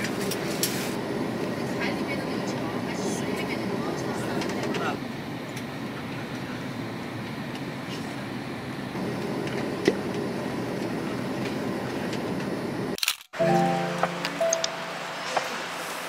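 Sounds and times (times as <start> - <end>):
jet airliner cabin noise: 0.0 - 16.0.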